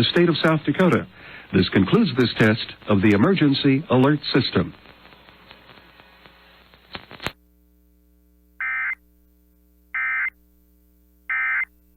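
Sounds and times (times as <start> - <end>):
faint hum: 0.0 - 11.9.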